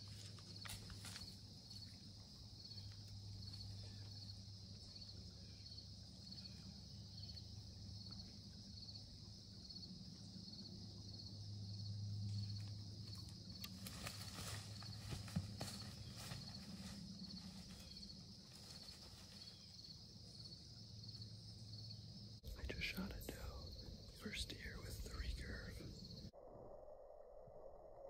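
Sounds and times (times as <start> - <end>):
high-pitched insect chorus: 0.0 - 26.3.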